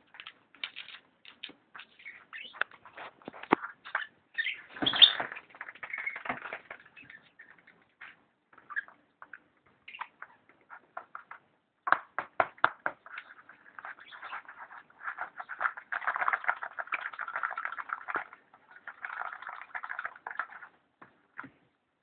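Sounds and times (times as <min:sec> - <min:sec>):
scratching and rustling of tube: 0:00.0 - 0:09.4, 0:12.9 - 0:21.6.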